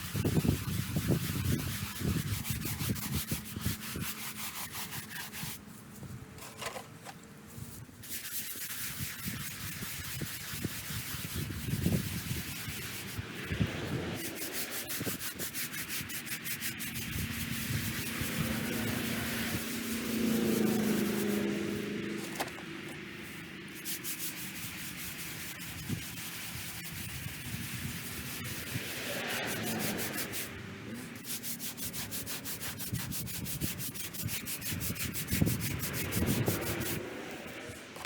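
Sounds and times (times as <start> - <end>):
stiff brush scrubbing wet stone: 0.0 - 6.7, 7.5 - 38.0.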